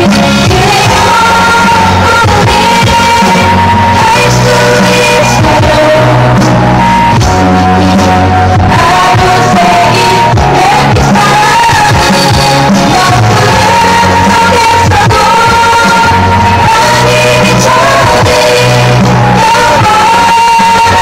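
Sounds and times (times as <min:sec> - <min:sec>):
backing track with bass line: 0:00.0 - 0:21.0
female voices singing pop song: 0:00.0 - 0:21.0.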